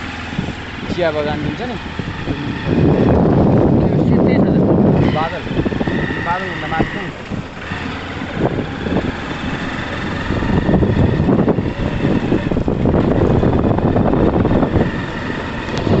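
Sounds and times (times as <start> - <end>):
vehicle driving on gravel road: 0.0 - 16.0
wind on microphone: 0.0 - 16.0.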